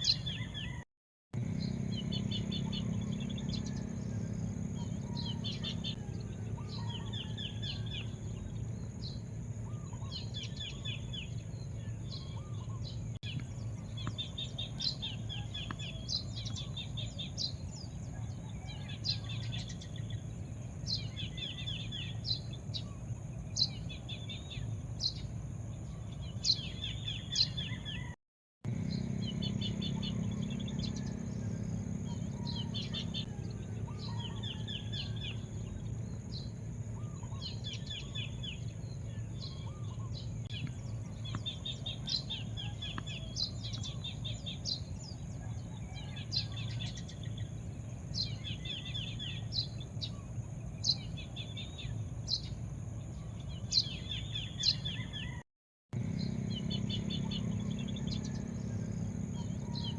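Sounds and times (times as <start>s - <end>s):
small birds chirping: 0.0s - 0.8s, 1.4s - 55.4s, 56.0s - 59.9s
low background rumble: 1.4s - 28.0s, 28.7s - 55.2s, 56.0s - 59.9s.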